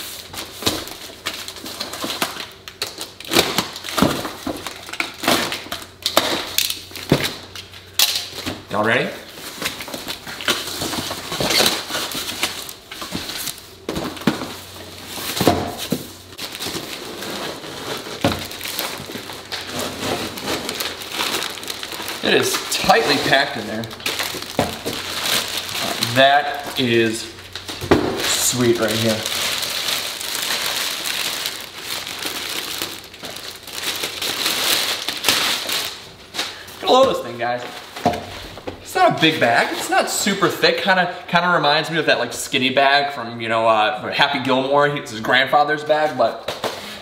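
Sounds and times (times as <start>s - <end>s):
plastic packaging crinkling: 0.0s - 8.4s, 9.3s - 38.6s.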